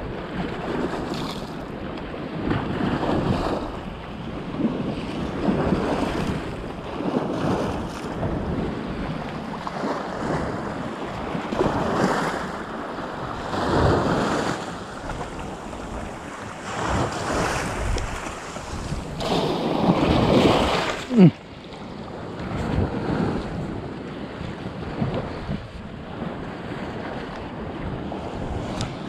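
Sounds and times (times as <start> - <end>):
wind buffeting microphone: 0.0 - 29.0
waves washing over rocks: 0.4 - 29.0.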